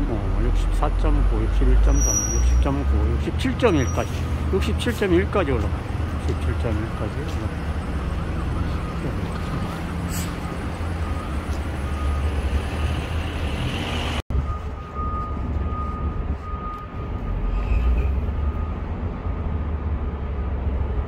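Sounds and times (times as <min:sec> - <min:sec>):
construction site rumble: 0:00.0 - 0:21.0.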